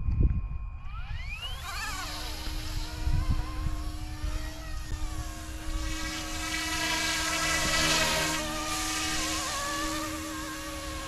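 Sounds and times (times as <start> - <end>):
model helicopter rotors: 0.2 - 11.0.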